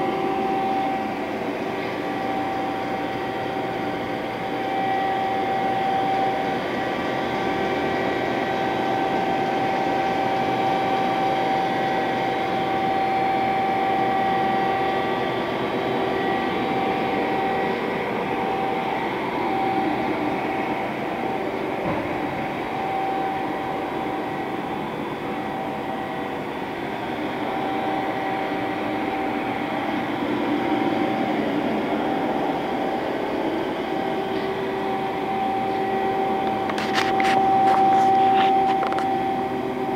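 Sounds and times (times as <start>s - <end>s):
high whine: 0.0s - 39.9s
machine hum: 0.0s - 39.9s.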